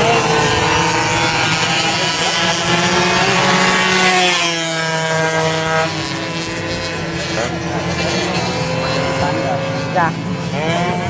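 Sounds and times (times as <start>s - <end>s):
racing motorcycle engines revving: 0.0s - 11.0s.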